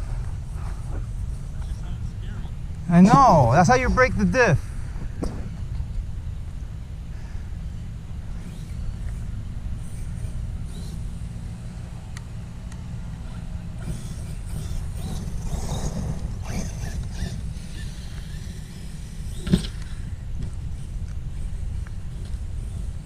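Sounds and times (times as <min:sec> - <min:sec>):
rc car motor whine: 0:00.0 - 0:23.0.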